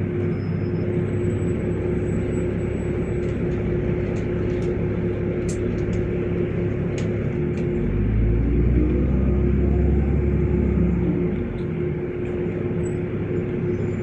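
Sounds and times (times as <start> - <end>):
bus engine drone: 0.0 - 14.0
road rumble: 0.0 - 14.0.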